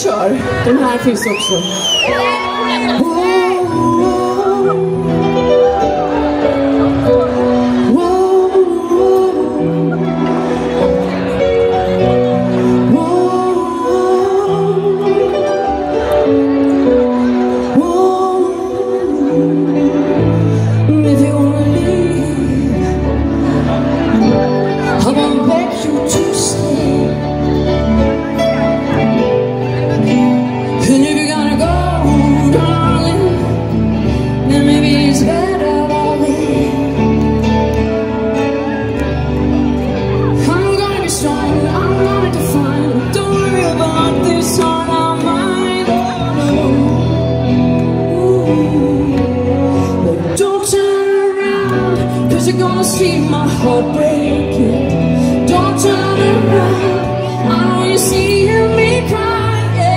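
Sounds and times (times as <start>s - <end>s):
woman singing: 0.0s - 6.2s, 7.0s - 11.1s, 12.6s - 23.3s, 24.1s - 28.4s, 30.3s - 38.1s, 40.4s - 59.9s
band playing pop song: 0.0s - 59.9s.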